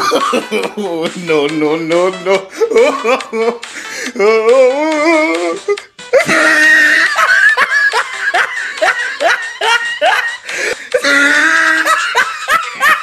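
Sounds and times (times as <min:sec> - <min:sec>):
person laughing loudly: 0:00.0 - 0:01.3, 0:02.2 - 0:13.0.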